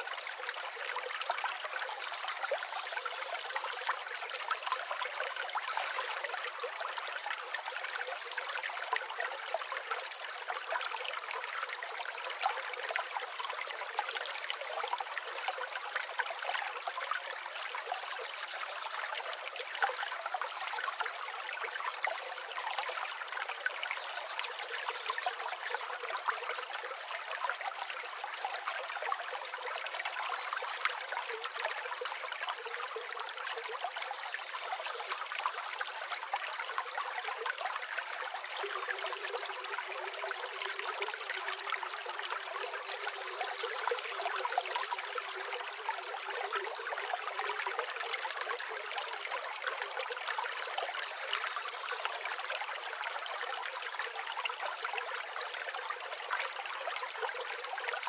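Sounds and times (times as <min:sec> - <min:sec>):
stream babbling: 0:00.0 - 0:58.0.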